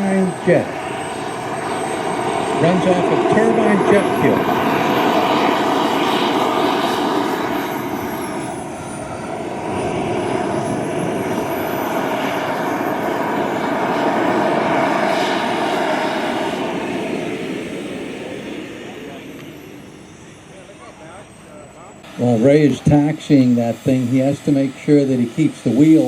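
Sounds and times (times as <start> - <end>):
model jet engine whine: 0.0 - 26.0.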